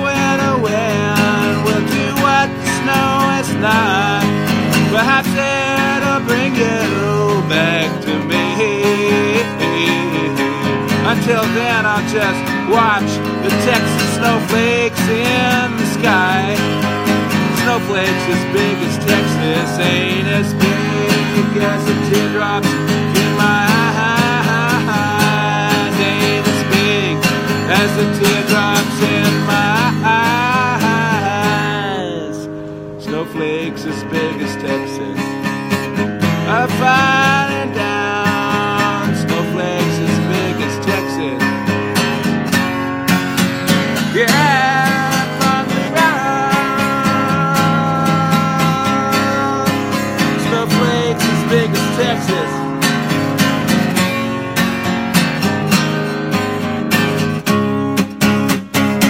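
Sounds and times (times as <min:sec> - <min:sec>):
man singing: 0:00.0 - 0:42.8, 0:43.7 - 0:54.9
acoustic guitar strumming: 0:00.0 - 0:59.0.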